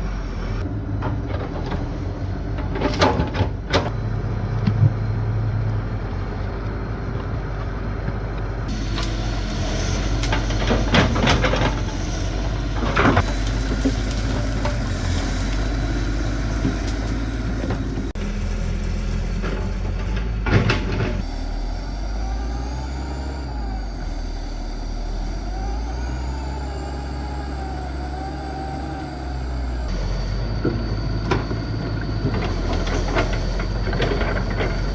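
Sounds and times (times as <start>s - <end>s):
heavy engine running: 0.0s - 34.9s
wavering whine: 3.9s - 18.4s, 19.1s - 34.9s.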